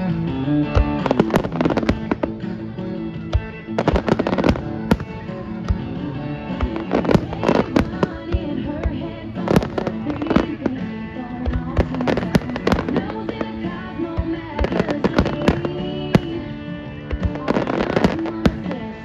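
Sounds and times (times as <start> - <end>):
music with long held notes: 0.0 - 19.0
fireworks bangs and cracks: 0.7 - 19.0.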